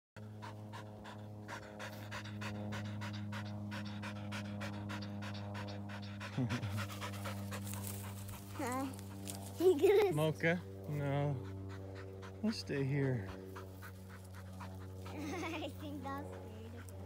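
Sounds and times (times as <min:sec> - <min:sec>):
dog panting fast: 0:00.2 - 0:10.3, 0:11.2 - 0:17.0
steady low hum: 0:00.2 - 0:17.0.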